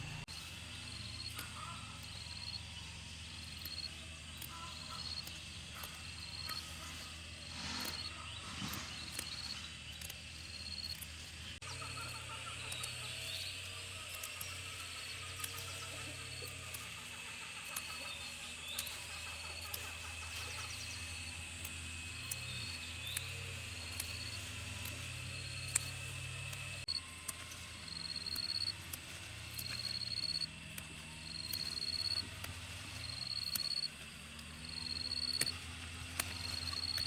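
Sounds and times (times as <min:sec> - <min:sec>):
insects buzzing and chirping: 0:00.3 - 0:37.0.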